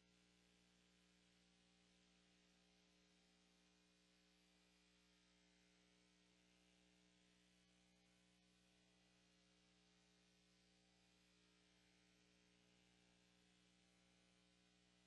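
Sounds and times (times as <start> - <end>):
faint electrical hum with hiss: 0.0 - 15.0.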